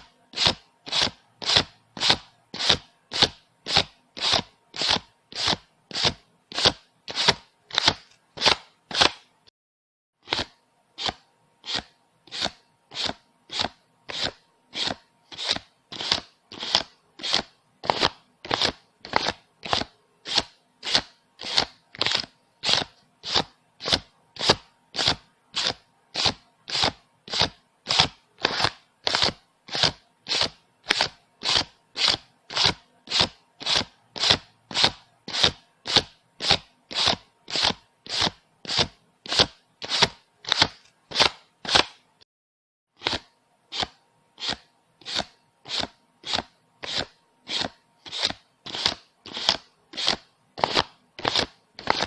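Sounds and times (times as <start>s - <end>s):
banknotes being counted by hand: 0.0s - 9.3s, 10.2s - 42.1s, 43.0s - 52.0s.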